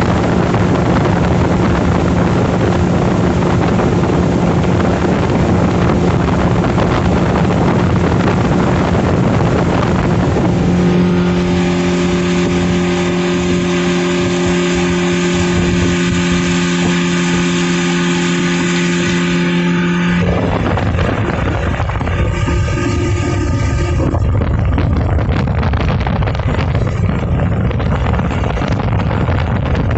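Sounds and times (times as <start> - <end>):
speedboat engine humming: 0.0 - 29.9
wind and water rushing: 0.0 - 29.9.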